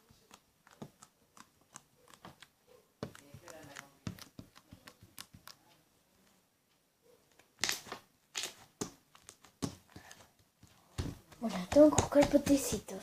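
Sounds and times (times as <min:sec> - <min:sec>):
slime squelching and crackling: 0:00.0 - 0:05.8, 0:07.6 - 0:13.0.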